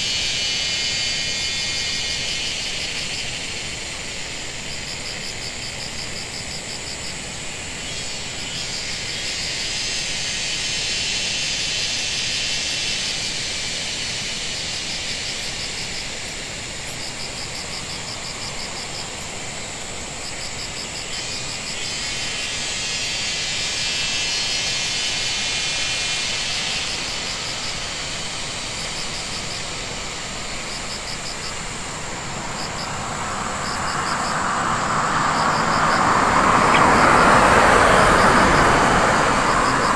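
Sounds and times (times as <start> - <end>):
insects chirping: 0.0 - 39.9
steady hiss: 0.0 - 39.9.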